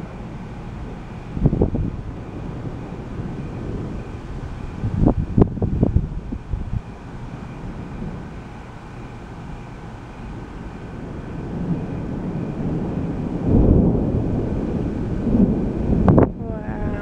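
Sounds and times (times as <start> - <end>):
low deep thunder rumbling: 0.0 - 17.0.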